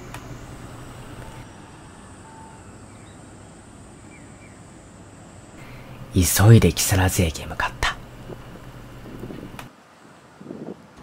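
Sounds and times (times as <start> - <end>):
distant traffic hum: 0.0 - 9.7.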